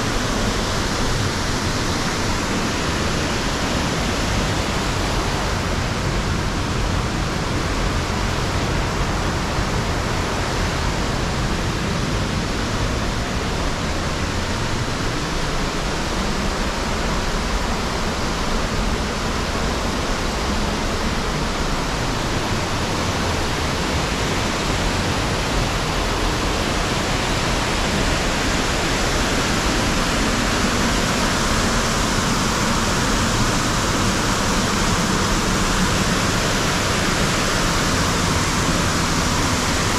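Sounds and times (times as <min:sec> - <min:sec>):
waterfall cascading over rock: 0:00.0 - 0:39.9.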